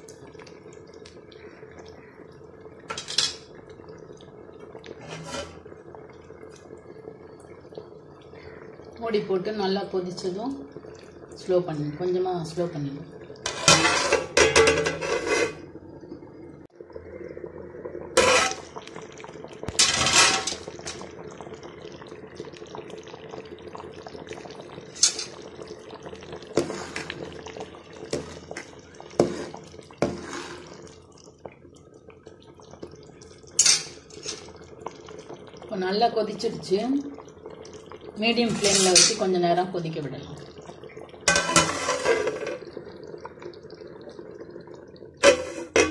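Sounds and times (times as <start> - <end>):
thick gravy boiling and popping: 0.0 - 45.9.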